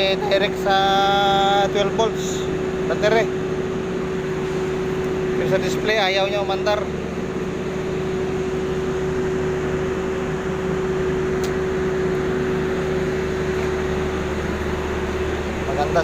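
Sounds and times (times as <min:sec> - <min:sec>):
machine drone humming: 0:00.0 - 0:16.0.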